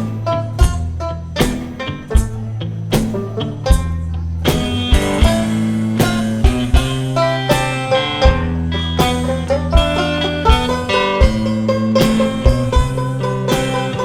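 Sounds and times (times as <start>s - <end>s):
foot drum thumps: 0.0s - 14.0s
guitar playing: 0.0s - 14.0s.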